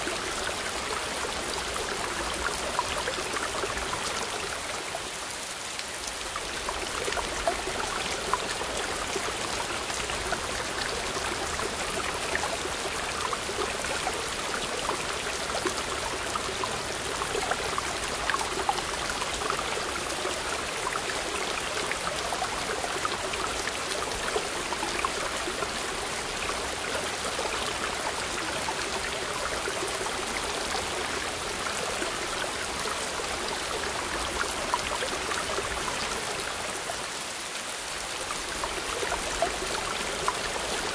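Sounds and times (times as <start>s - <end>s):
stream rushing over boulders: 0.0s - 40.9s.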